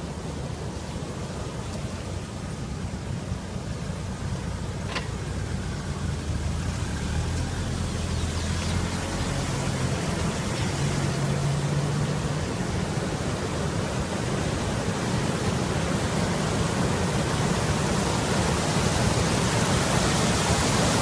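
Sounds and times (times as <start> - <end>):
engine humming: 0.0 - 21.0
water rushing: 0.0 - 21.0.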